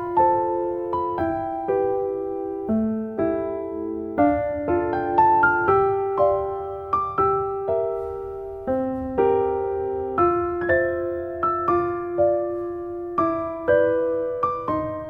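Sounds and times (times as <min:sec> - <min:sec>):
gentle electric piano notes: 0:00.0 - 0:15.0.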